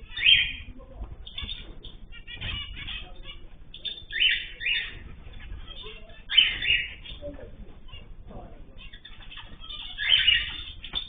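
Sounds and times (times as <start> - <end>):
soft bird chirps: 0.0 - 8.1, 8.8 - 11.0
harsh bird calls: 0.0 - 11.0.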